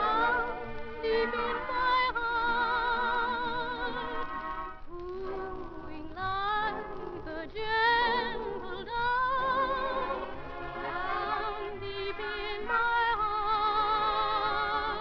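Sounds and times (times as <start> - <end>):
orchestral accompaniment: 0.0 - 15.0
person singing with vibrato: 0.0 - 15.0.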